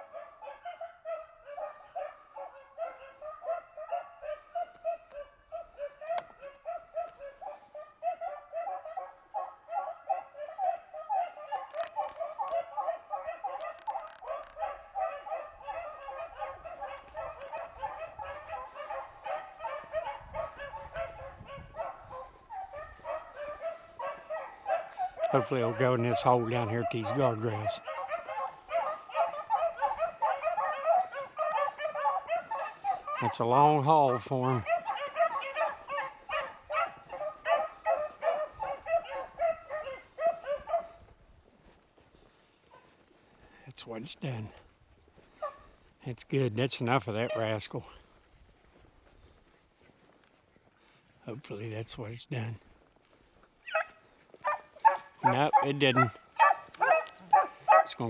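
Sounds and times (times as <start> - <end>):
beagles baying in chorus: 0.0 - 58.0.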